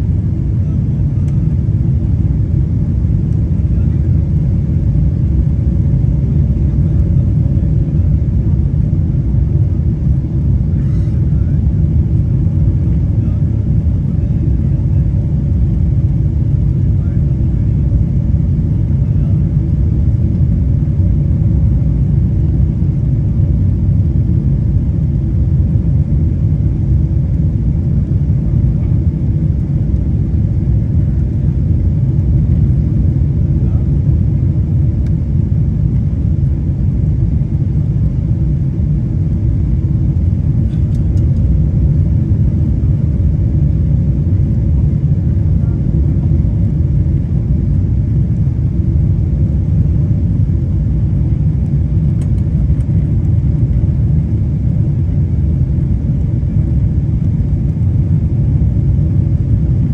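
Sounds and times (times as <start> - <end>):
airplane engines rumbling: 0.0 - 59.9.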